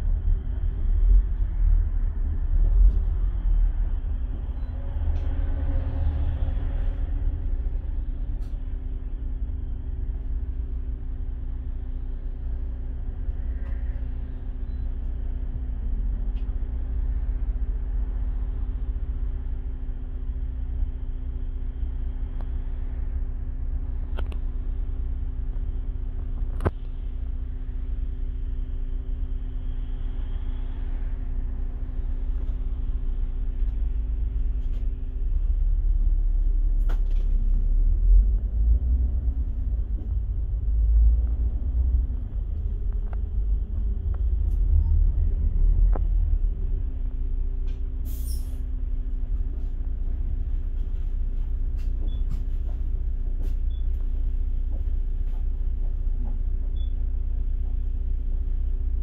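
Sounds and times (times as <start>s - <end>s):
bus engine idling and pulling away: 0.0s - 59.0s.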